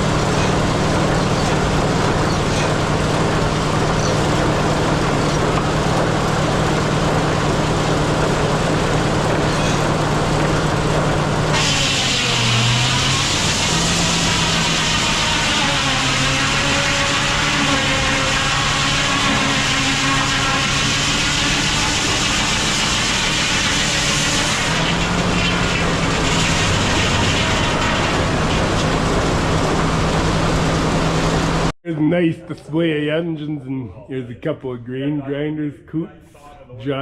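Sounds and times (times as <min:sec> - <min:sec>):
large engine running loudly: 0:00.0 - 0:31.7.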